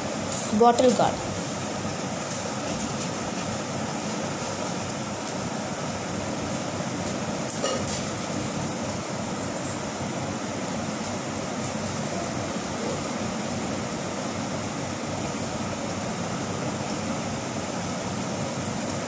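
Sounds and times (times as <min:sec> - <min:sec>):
steady fan whirring: 0:00.0 - 0:19.0.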